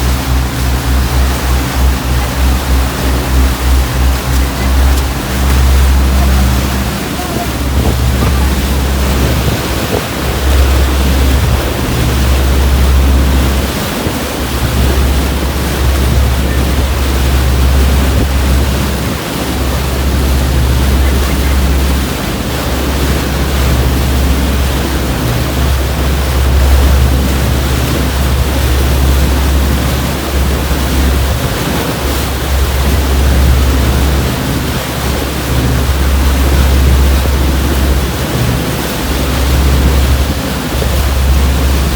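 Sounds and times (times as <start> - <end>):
sea water rushing: 0.0 - 41.9
wind buffeting microphone: 0.0 - 41.9.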